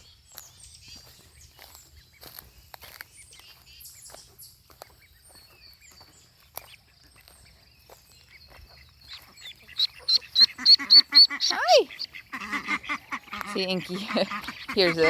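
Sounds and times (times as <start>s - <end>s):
footsteps: 0.0s - 11.0s, 12.5s - 15.0s
duckling peeping: 0.0s - 15.0s.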